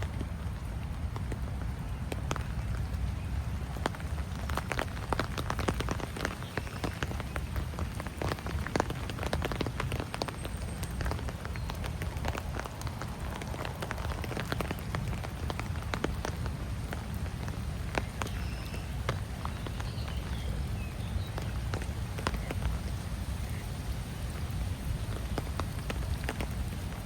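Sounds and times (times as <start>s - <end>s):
rain hiss: 0.0s - 27.0s
raindrops ticking and tapping: 0.0s - 27.0s.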